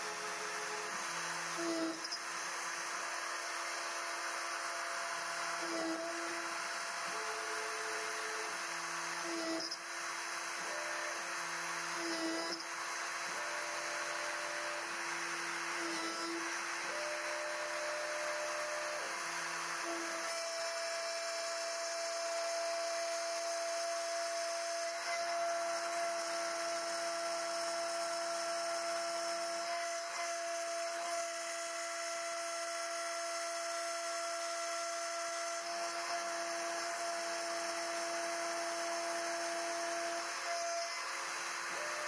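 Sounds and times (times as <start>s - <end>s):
router spindle high-pitched whine: 0.0s - 42.0s.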